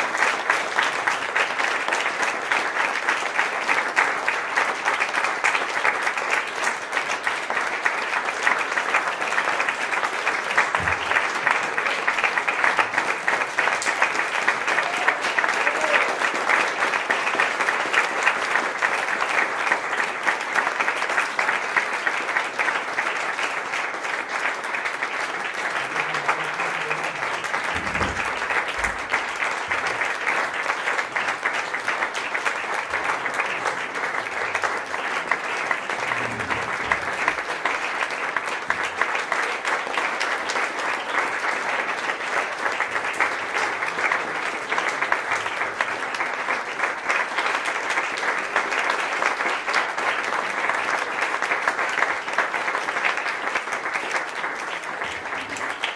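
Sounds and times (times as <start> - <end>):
crowd applauding: 0.0 - 55.9.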